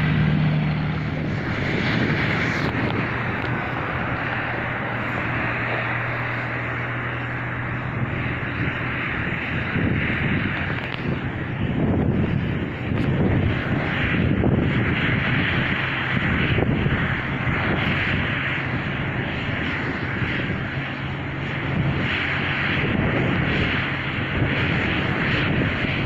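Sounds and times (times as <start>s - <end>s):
aircraft engine and propeller drone: 0.0s - 26.0s.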